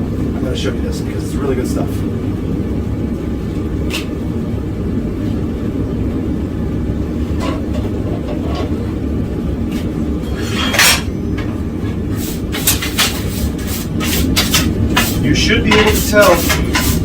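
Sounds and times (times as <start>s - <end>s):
forge burner rushing: 0.0s - 17.0s.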